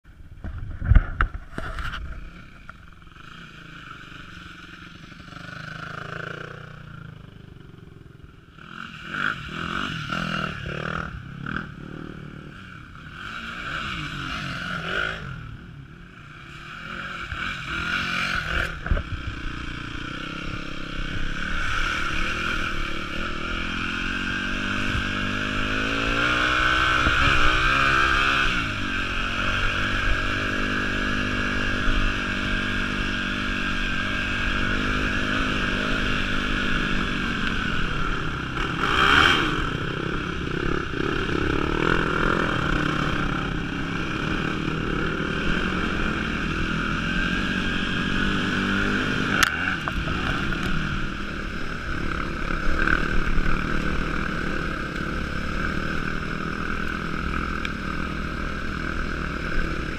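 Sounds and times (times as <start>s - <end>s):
trail bike engine revving: 0.8s - 59.9s.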